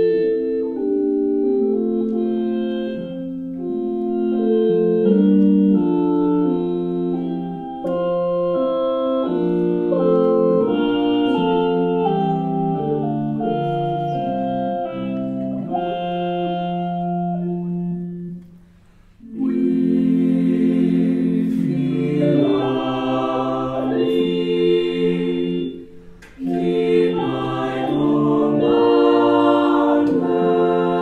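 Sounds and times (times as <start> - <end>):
synthetic choral voices: 0.0 - 18.2, 19.2 - 31.0.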